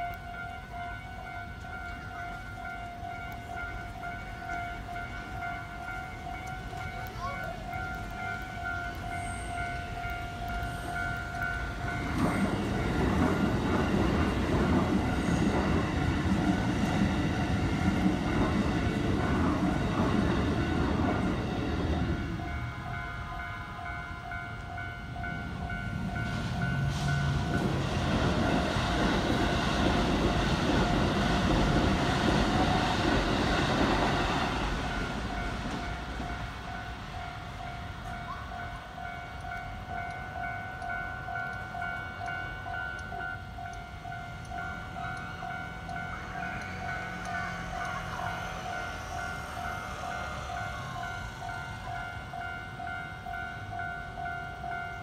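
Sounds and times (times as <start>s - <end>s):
train wheel clatter: 0.0s - 23.5s, 24.5s - 55.0s
electric trains running past: 0.0s - 55.0s
level crossing warning bell: 0.0s - 55.0s.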